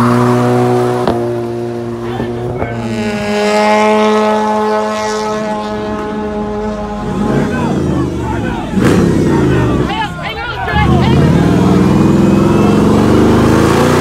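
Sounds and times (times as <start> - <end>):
car engine revving high: 0.0 - 14.0.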